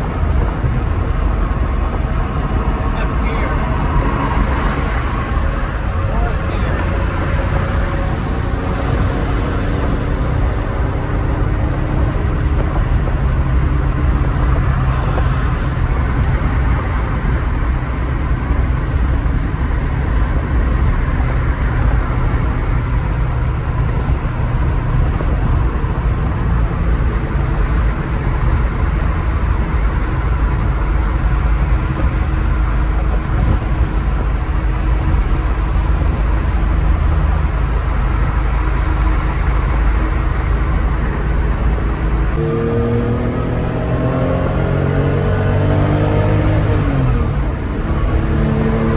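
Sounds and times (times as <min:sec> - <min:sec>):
car engine running: 0:00.0 - 0:48.9
road and wind noise: 0:00.0 - 0:48.9.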